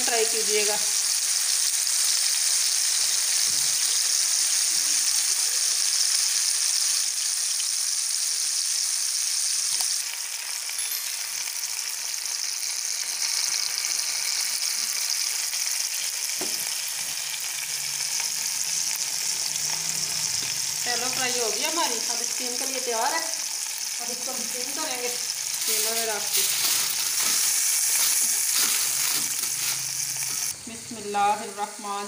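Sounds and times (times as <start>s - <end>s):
fish sizzling in oil: 0.0s - 32.0s.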